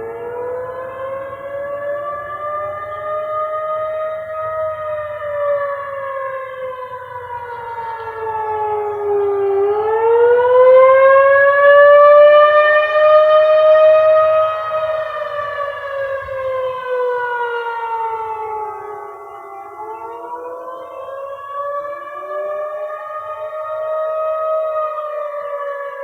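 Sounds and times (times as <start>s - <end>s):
siren wavering: 0.0s - 26.0s.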